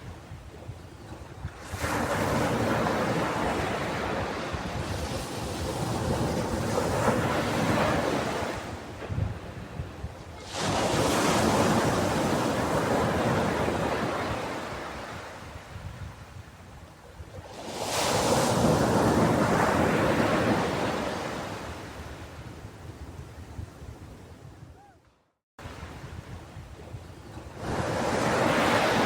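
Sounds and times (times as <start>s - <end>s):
ocean waves breaking on beach: 0.0s - 23.2s, 25.6s - 29.0s.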